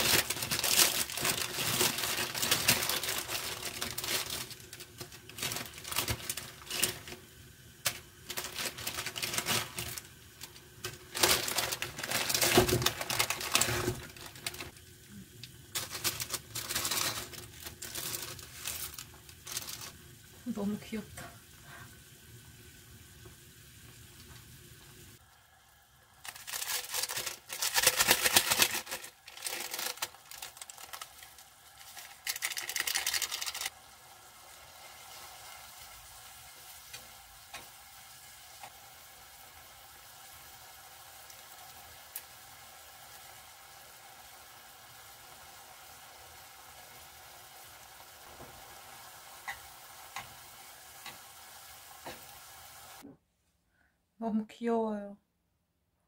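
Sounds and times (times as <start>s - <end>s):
noodles sizzling in a pot: 0.0s - 53.0s.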